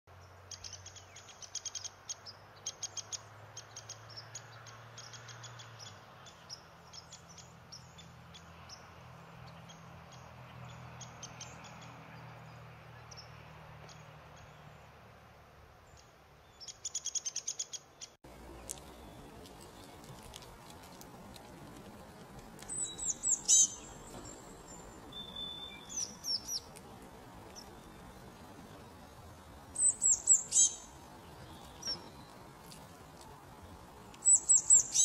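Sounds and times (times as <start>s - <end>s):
small birds chirping: 0.1s - 15.0s, 15.8s - 35.0s.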